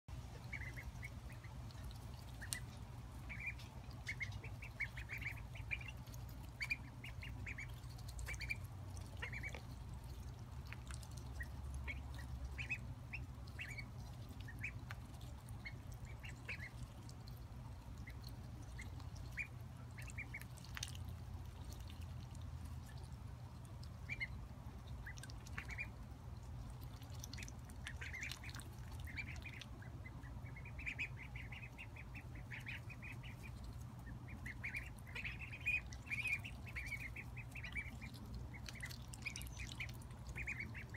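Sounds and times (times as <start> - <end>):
ducklings peeping: 0.1 - 40.9
steady low rumble: 0.1 - 40.9.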